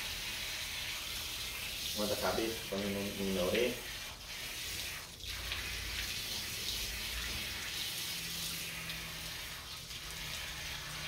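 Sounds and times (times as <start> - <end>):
hose water splashing: 0.0 - 11.0.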